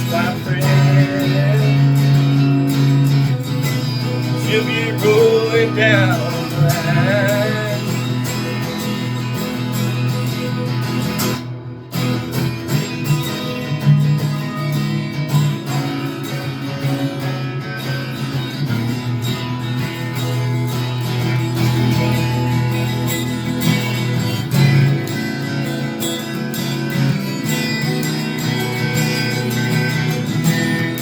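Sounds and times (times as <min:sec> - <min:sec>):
acoustic guitar strumming and picking: 0:00.0 - 0:31.0.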